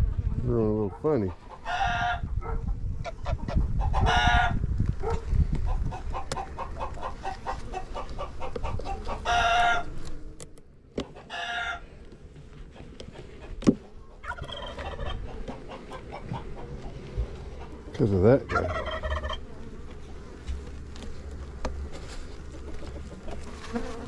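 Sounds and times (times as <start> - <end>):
chickens calling: 0.0 - 10.1, 11.0 - 23.7
chickens clucking: 1.2 - 10.0, 11.0 - 11.8, 12.5 - 23.6.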